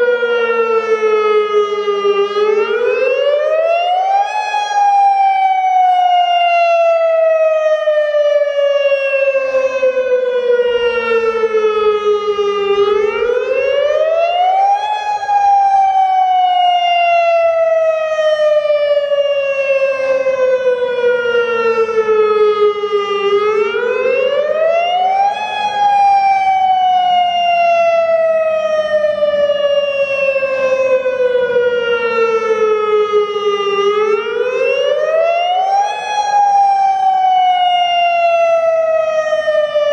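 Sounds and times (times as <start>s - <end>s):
warning siren wail: 0.0s - 39.9s.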